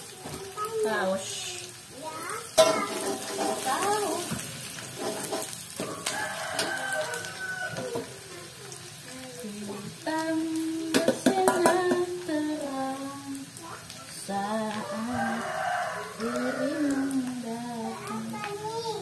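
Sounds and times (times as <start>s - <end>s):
onions sizzling in oil: 0.0s - 19.0s.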